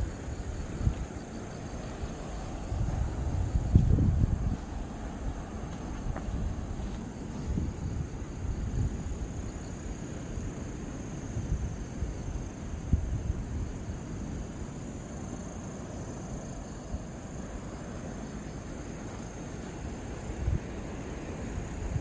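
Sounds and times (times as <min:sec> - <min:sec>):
steady high-pitched hum: 0:00.0 - 0:22.0
wind rumbling on microphone: 0:00.0 - 0:22.0.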